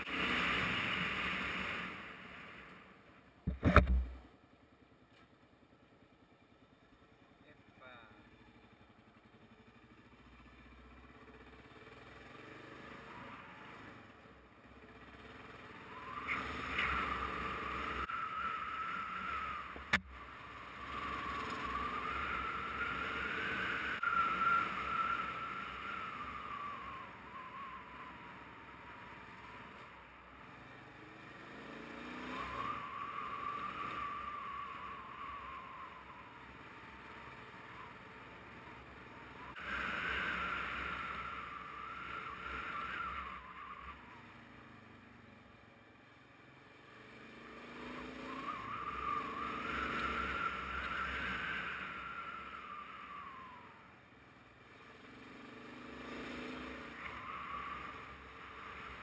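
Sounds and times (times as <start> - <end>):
motorcycle engine revving: 7.8 - 59.0.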